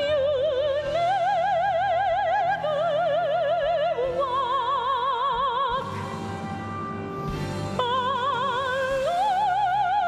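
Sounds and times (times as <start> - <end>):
woman singing ballad: 0.0 - 6.0, 7.8 - 10.0
soft instrumental accompaniment: 0.0 - 10.0.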